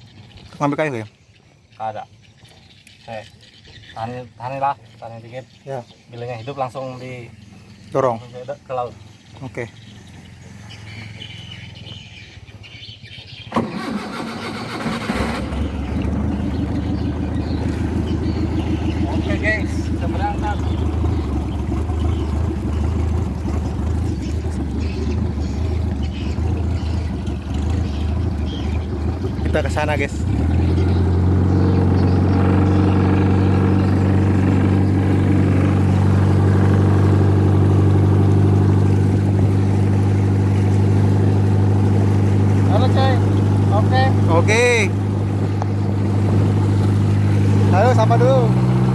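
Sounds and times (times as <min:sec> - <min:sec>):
boat engine starting and running: 0:00.0 - 0:48.9.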